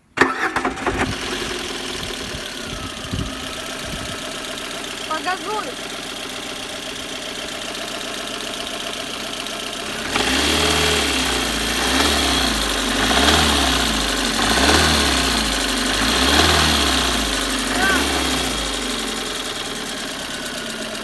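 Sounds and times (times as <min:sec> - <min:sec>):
car engine idling and revving: 0:00.0 - 0:21.0
engine knock: 0:00.9 - 0:21.0.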